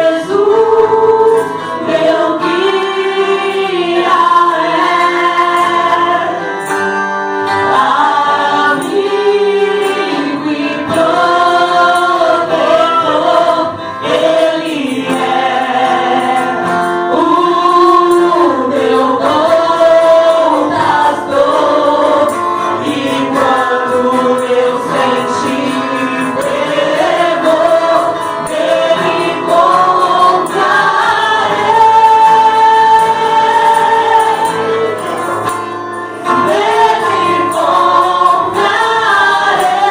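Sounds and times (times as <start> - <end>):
choir singing a gospel song: 0.0 - 39.9.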